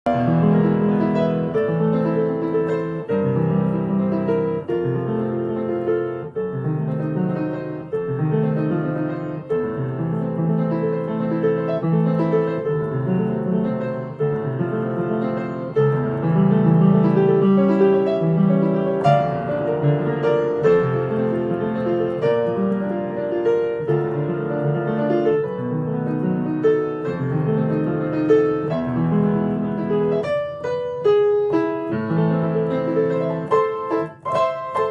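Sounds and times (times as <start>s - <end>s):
piano music: 0.0s - 34.9s.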